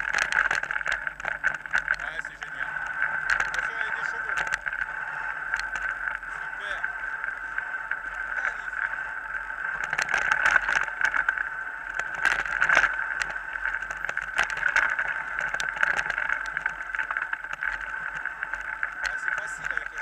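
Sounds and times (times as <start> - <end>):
mountain bike rattling: 0.0 - 20.0
steady whine: 0.0 - 20.0.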